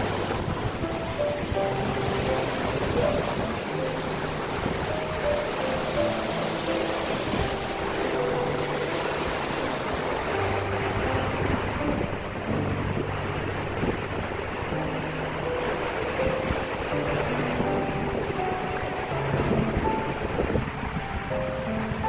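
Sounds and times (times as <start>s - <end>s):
creek water rushing: 0.0s - 22.0s
faint background music: 0.0s - 22.0s
wind on microphone: 0.0s - 22.0s.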